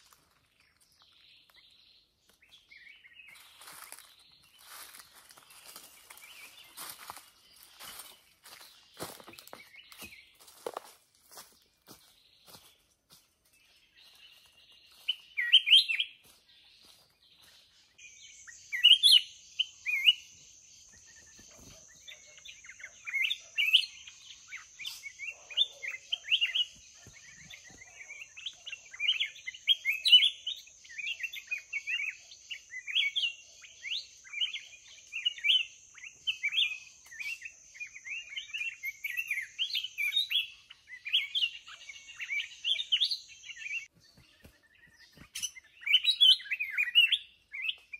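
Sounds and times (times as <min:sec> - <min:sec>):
bird chirping song: 0:00.0 - 0:47.9.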